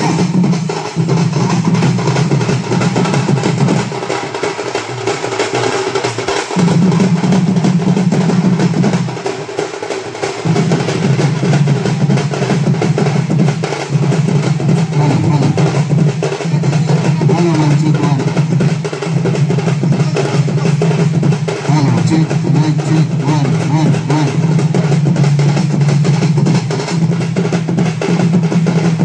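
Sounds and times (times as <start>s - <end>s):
loud music with fast drumming: 0.0s - 29.0s.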